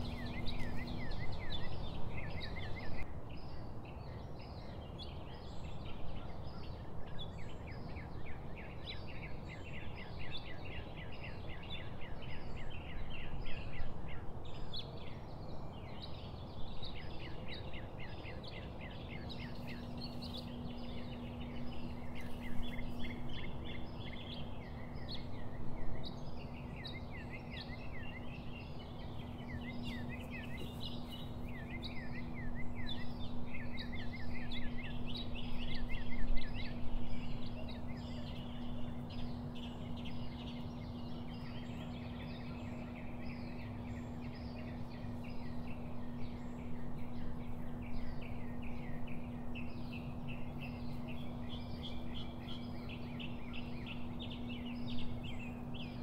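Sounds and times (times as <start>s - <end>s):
steady low hum: 0.0s - 3.8s, 5.8s - 56.0s
small birds chirping: 0.0s - 56.0s.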